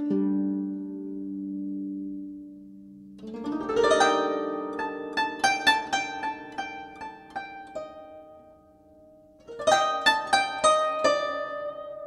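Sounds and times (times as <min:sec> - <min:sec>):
harp-like plucked string music: 0:00.0 - 0:12.0.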